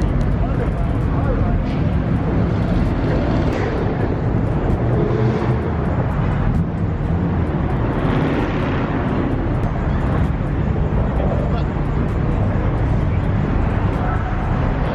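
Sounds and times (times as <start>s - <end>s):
car engines rumbling: 0.0s - 14.9s.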